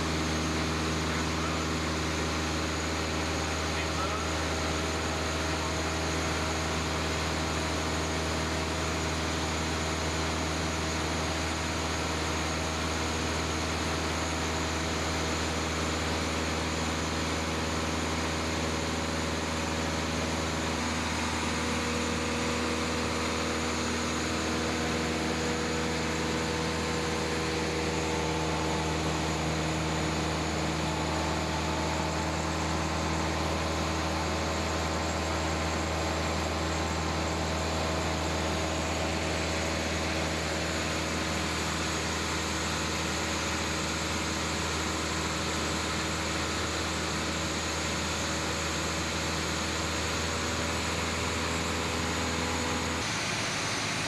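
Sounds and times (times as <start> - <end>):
propeller airplane engine droning: 0.0 - 54.0.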